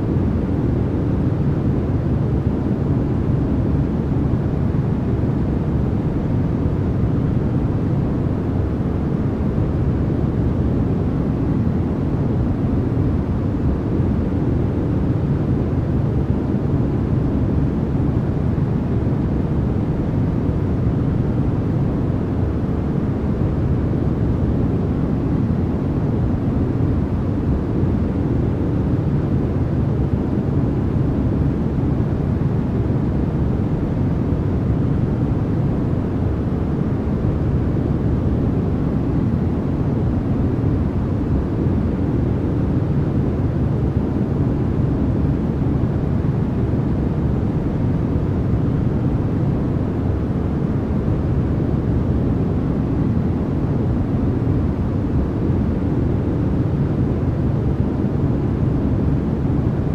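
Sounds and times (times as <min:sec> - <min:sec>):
deep even white noise rumble: 0:00.0 - 0:59.9.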